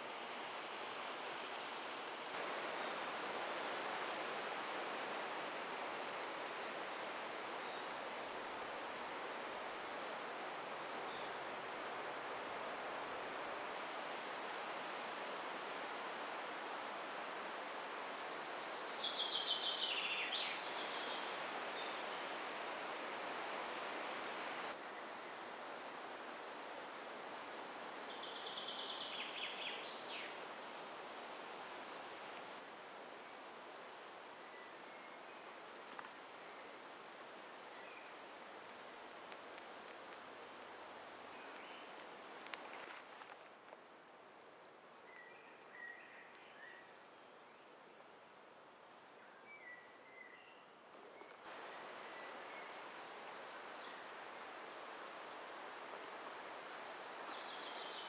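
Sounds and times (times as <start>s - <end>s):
wind through leaves: 0.0s - 58.0s.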